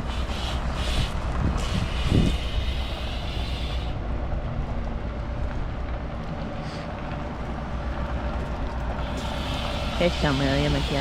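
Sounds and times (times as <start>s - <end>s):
truck engine low rumble: 0.0s - 11.0s.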